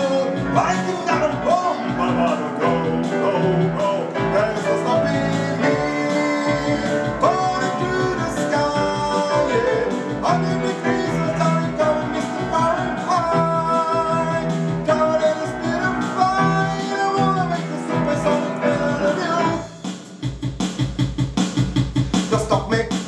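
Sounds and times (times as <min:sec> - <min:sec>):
man singing: 0:00.0 - 0:19.8, 0:22.2 - 0:23.0
piano playing repeated chords: 0:00.0 - 0:23.0.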